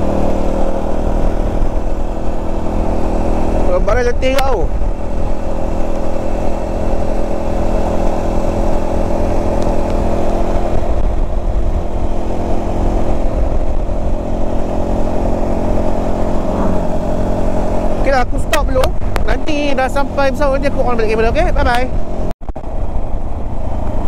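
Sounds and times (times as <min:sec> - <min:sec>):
vehicle engine cruising: 0:00.0 - 0:24.0
wind rumble on microphone: 0:00.0 - 0:24.0.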